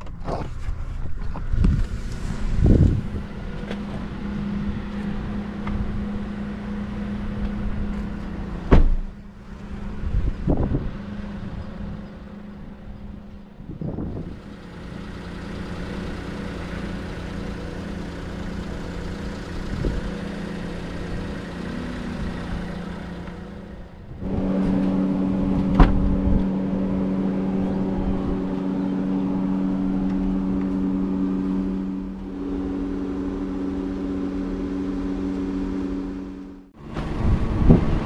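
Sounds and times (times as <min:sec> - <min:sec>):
road rumble: 0:00.0 - 0:38.0
van engine hum from inside: 0:00.0 - 0:38.0.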